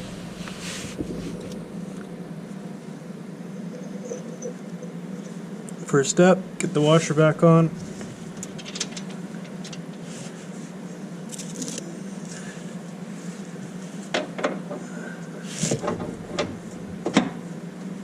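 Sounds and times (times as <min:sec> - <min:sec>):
low hum: 0:00.0 - 0:12.8, 0:14.9 - 0:17.7.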